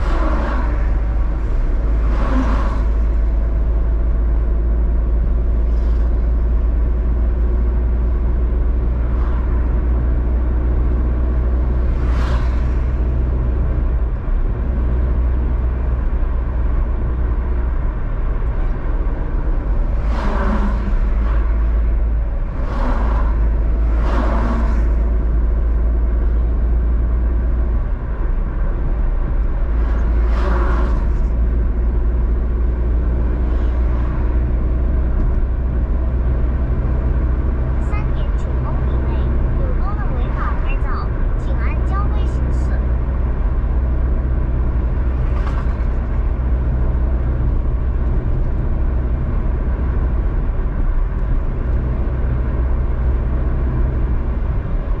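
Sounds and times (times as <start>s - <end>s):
car road noise: 0.0s - 55.0s
vehicles whooshing by: 0.0s - 55.0s.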